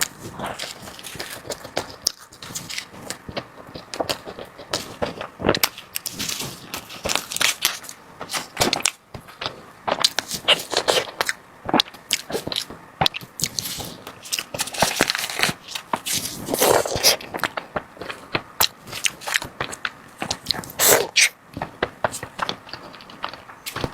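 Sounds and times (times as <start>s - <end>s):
crunchy chewing: 0.0s - 23.9s.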